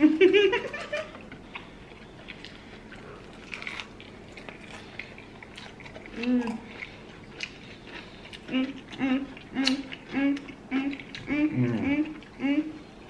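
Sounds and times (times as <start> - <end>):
chewing crispy chicken: 1.1 - 12.4.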